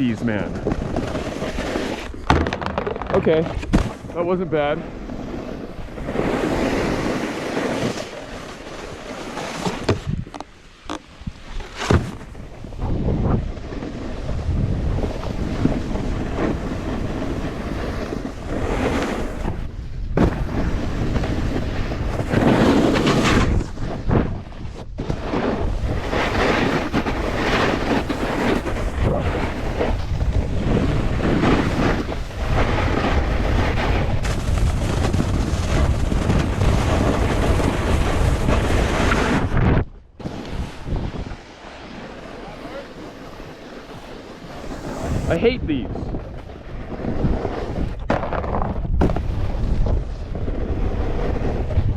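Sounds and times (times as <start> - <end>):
wind rushing over microphone: 0.0 - 10.5, 11.1 - 51.9
snowboard scraping snow: 0.0 - 51.9.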